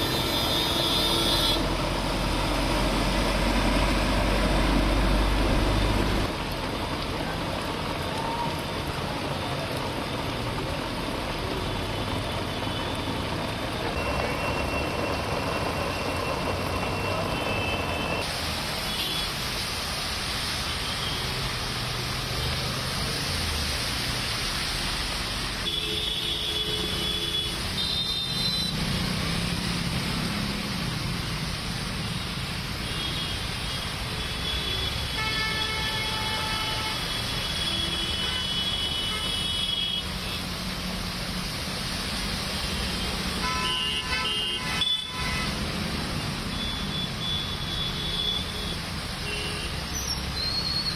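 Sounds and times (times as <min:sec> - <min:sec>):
heavy rain on a road: 0:00.0 - 0:50.9
traffic driving through water: 0:00.0 - 0:50.9.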